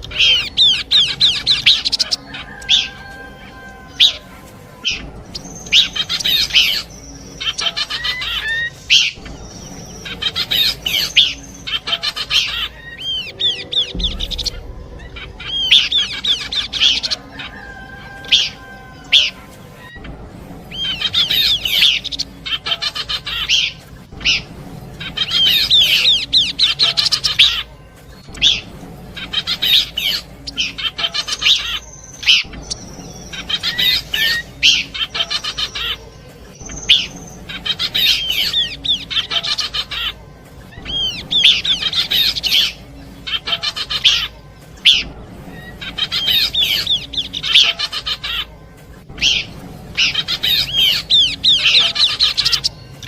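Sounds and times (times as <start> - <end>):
bird chattering song: 0.0 - 53.0.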